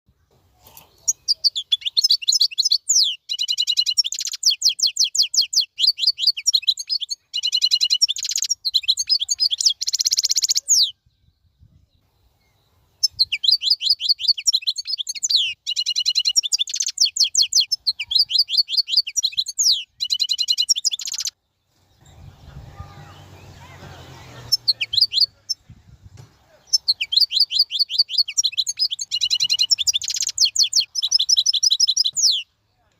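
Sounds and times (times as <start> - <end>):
songbird chirping and trilling: 0.1 - 32.9.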